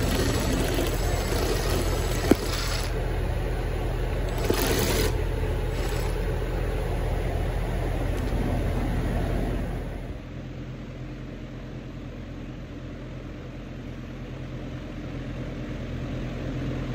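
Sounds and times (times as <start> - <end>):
low mechanical rumble: 0.0 - 16.9.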